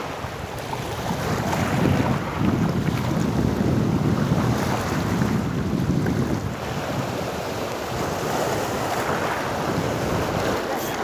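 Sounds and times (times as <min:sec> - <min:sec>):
small waves breaking: 0:00.0 - 0:11.0
wind buffeting microphone: 0:00.0 - 0:11.0.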